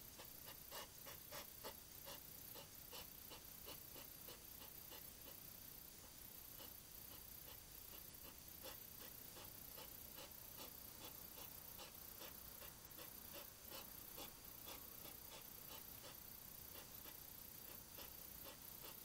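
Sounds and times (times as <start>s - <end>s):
microphone hiss: 0.0s - 19.0s.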